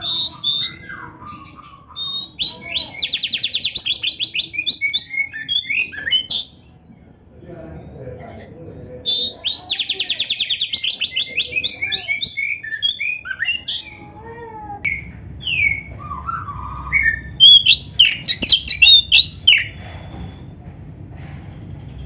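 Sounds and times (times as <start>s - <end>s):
magpie-robin singing: 0.0s - 7.0s, 8.4s - 14.1s, 14.8s - 19.9s.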